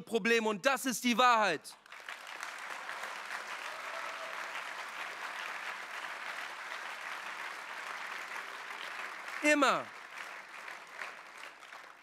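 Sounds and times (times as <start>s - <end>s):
audience applauding: 1.8s - 12.0s.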